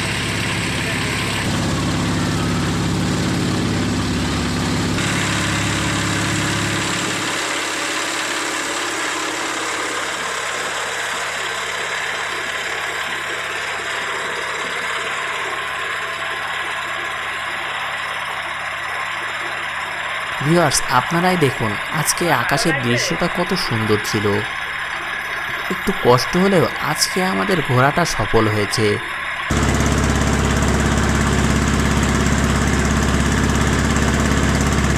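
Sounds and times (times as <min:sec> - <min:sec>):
boat engine drone: 0:00.0 - 0:34.9.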